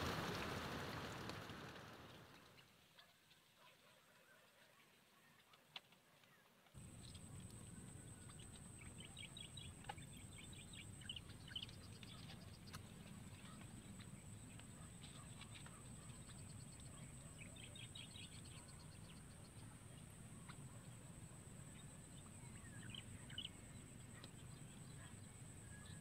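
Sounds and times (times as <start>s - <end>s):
birds chattering faintly: 0.0s - 26.0s.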